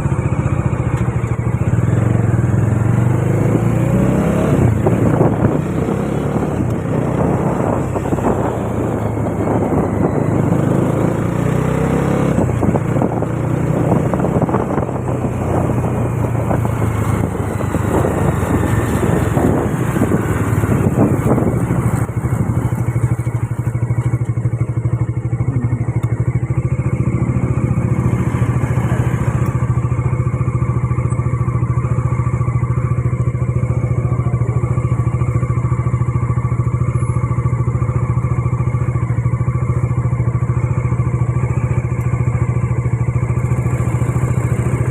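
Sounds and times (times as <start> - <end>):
motorcycle engine: 0.0 - 44.9.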